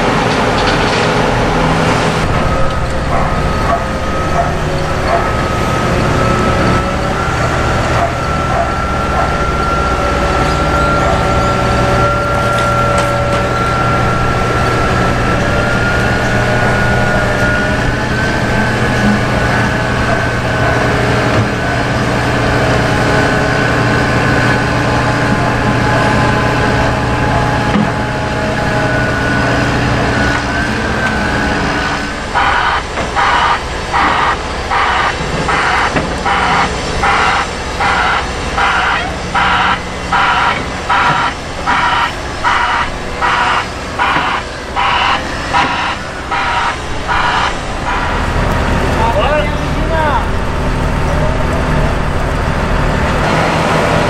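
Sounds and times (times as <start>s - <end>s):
diesel engine running: 0.0s - 54.0s
reversing alarm beeping: 2.4s - 50.4s.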